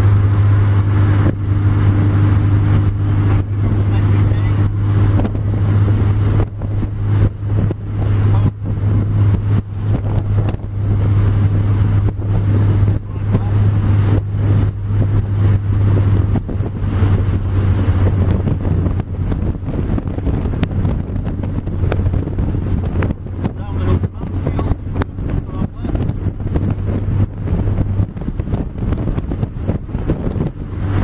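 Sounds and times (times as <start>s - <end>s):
race car engine running hard: 0.0s - 31.0s
wind buffeting the microphone: 0.0s - 31.0s.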